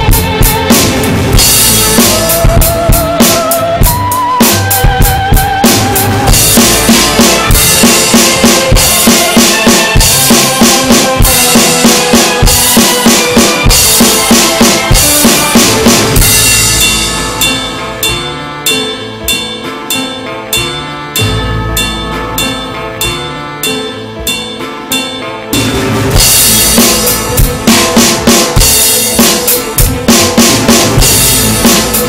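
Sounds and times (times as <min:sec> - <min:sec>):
backing track music: 0:00.0 - 0:32.0
electronic drum kit beat: 0:00.0 - 0:32.0
cymbal crash: 0:06.2 - 0:32.0.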